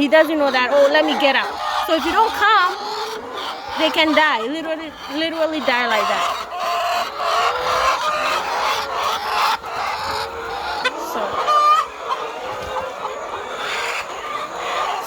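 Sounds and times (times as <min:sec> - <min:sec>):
hens clucking: 0:00.0 - 0:15.0
loud hen call: 0:00.0 - 0:15.0.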